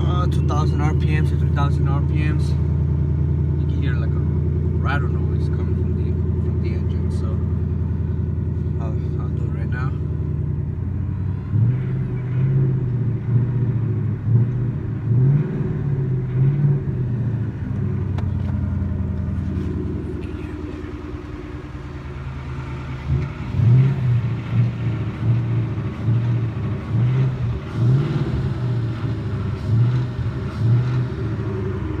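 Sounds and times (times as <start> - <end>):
car engine revving: 0.0 - 32.0
engine rattle: 0.0 - 32.0.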